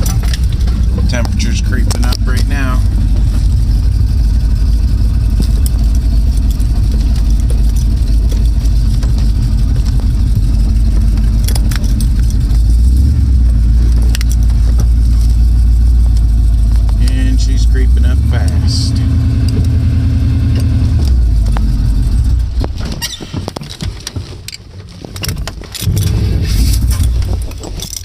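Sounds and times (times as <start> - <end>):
light clicks and rattles: 0.0 - 19.8, 20.6 - 28.0
engine rumbling: 0.0 - 28.0.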